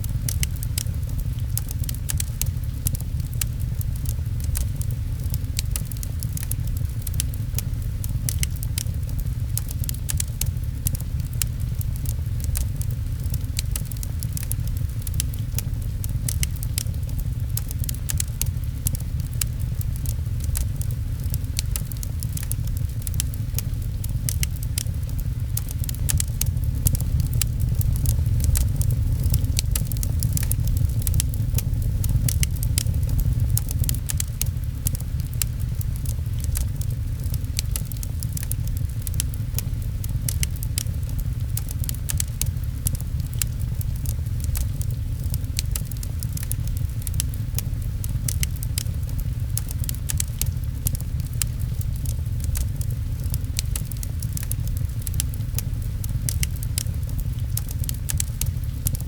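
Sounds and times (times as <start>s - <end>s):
rain on a window: 0.0s - 59.0s
wood fire crackling: 0.0s - 59.0s.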